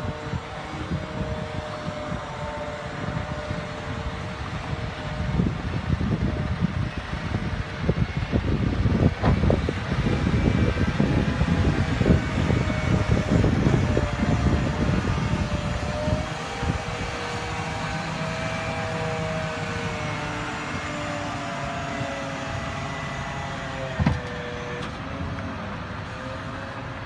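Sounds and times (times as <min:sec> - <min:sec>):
diesel truck engine: 0:00.0 - 0:27.0
faint engine whine: 0:00.0 - 0:27.0.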